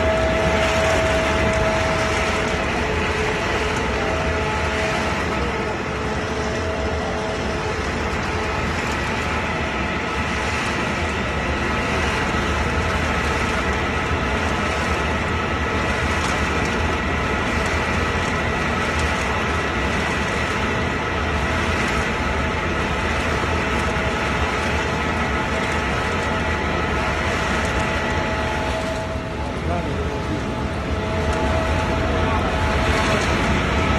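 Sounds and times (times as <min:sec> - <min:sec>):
machinery din with low hum: 0:00.0 - 0:33.9
steady whining tones: 0:00.0 - 0:33.9.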